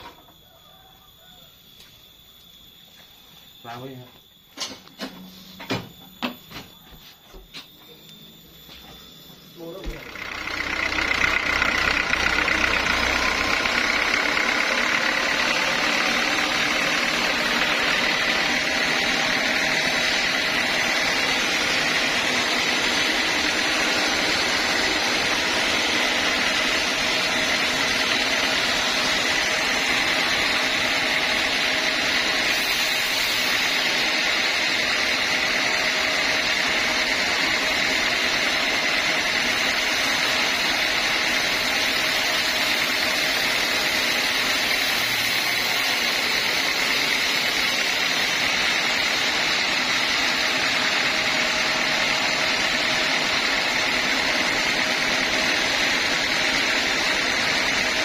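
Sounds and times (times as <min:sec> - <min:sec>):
band sawmill running: 0:04.8 - 0:58.0.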